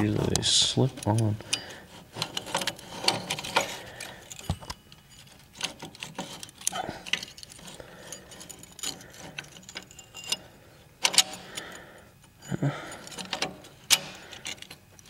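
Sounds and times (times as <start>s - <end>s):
metal clutch parts clinking: 0.0s - 15.0s.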